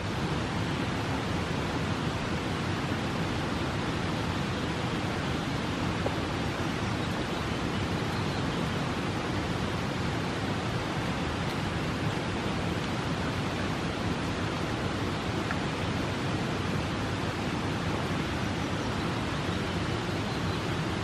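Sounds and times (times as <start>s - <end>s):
fast-flowing river water: 0.0s - 21.0s.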